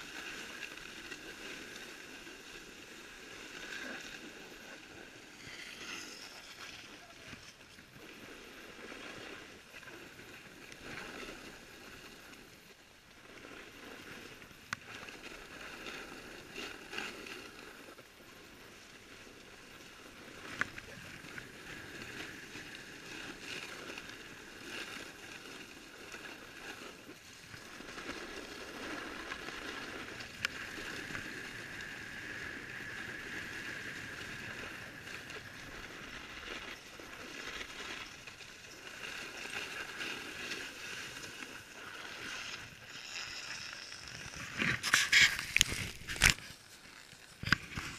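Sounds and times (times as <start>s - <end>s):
snowboard scraping over snow: 0.0s - 47.9s.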